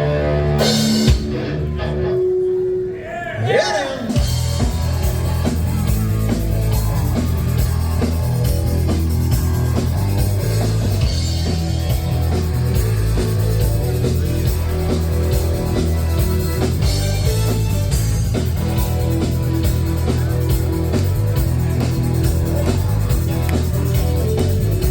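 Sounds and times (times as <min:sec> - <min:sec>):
rock music: 0:00.0 - 0:24.9.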